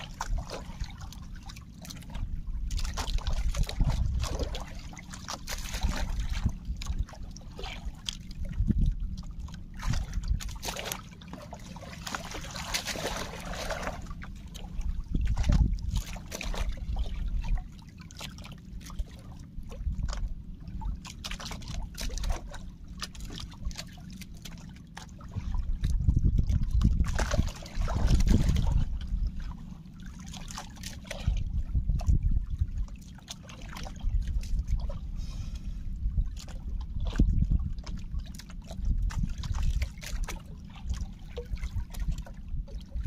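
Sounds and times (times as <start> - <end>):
water splashing: 0.0 - 25.8, 26.7 - 35.6
water sloshing around boat: 0.0 - 43.0.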